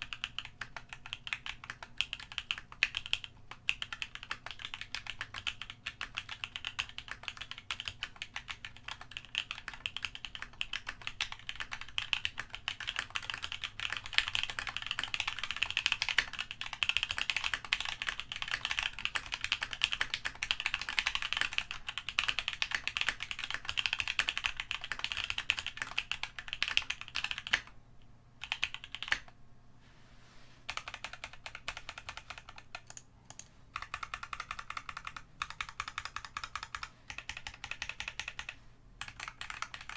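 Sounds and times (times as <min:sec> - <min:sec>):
fast keyboard typing: 0:00.0 - 0:27.7, 0:28.4 - 0:29.3, 0:30.7 - 0:39.9.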